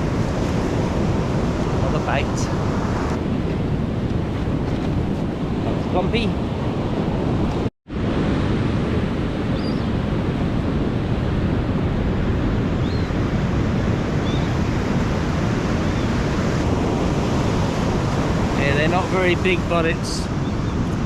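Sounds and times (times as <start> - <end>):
surf breaking on beach: 0.0 - 6.5, 7.9 - 21.0
wind on microphone: 0.0 - 21.0.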